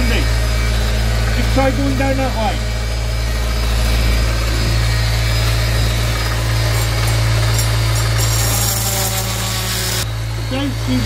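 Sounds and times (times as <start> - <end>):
oscillating tool grinding: 0.0 - 11.0.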